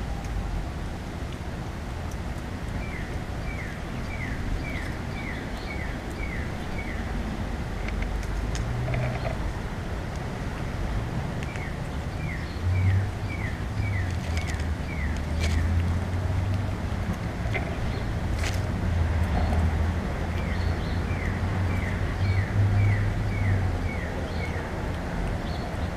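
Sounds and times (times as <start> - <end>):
low outdoor rumble: 0.0 - 25.9.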